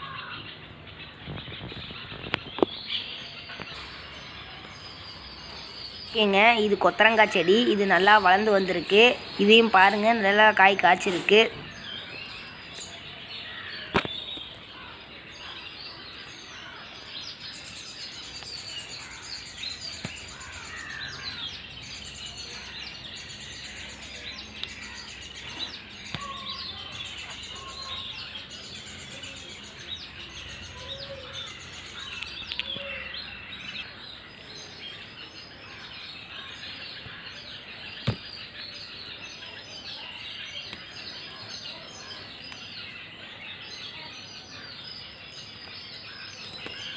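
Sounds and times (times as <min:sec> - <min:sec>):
faint background noise: 0:00.0 - 0:46.9
small birds chirping: 0:00.0 - 0:46.9.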